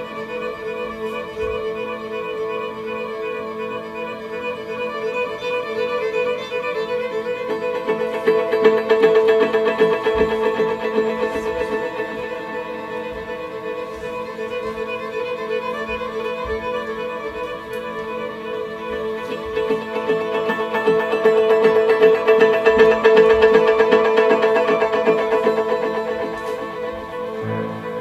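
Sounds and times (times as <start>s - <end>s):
violin music: 0.0s - 28.0s.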